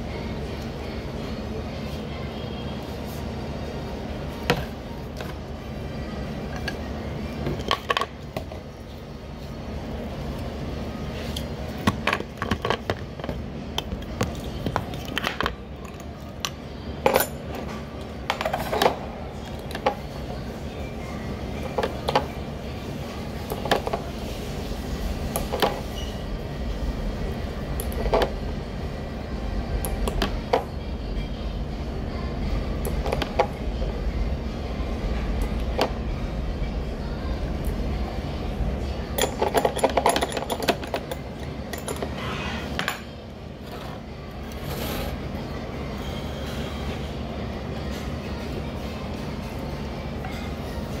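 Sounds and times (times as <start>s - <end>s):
low restaurant hum: 0.0s - 51.0s.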